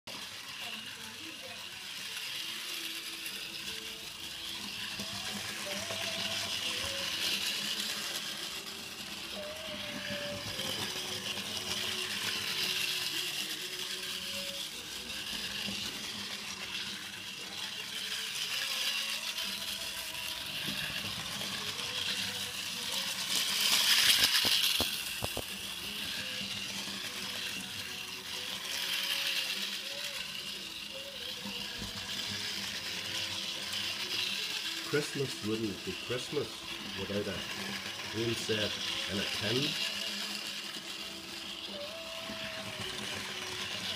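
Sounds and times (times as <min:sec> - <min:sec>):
toy train clattering on track: 0:00.1 - 0:43.9.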